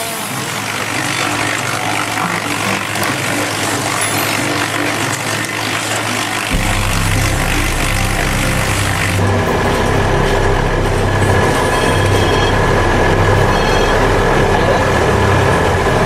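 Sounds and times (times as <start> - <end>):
engine with high whine: 0.0 - 16.0
low engine drone: 0.0 - 16.0
wood chipper rushing: 0.0 - 16.0.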